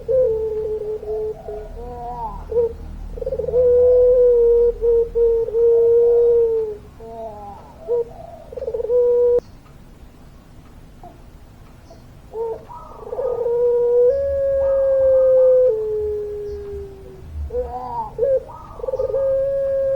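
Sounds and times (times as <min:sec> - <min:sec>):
dove cooing: 0:00.0 - 0:09.4, 0:12.3 - 0:19.9.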